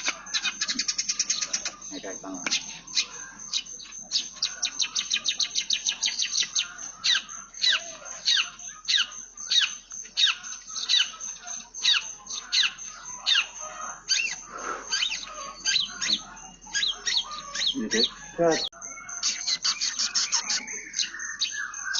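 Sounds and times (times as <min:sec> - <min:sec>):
bird singing with chirps: 0:00.0 - 0:21.9.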